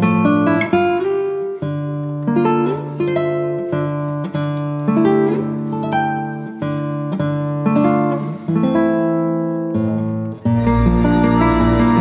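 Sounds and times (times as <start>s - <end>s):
acoustic guitar plucking: 0.0s - 12.0s.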